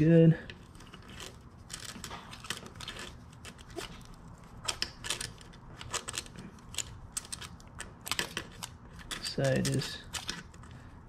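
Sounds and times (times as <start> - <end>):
feeler gauge metallic clicks and scrapes: 0.4 - 10.8.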